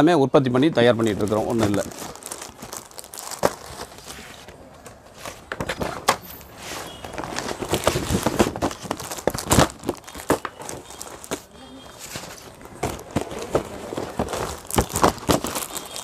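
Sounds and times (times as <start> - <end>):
plastic packaging crinkling: 0.5 - 16.0.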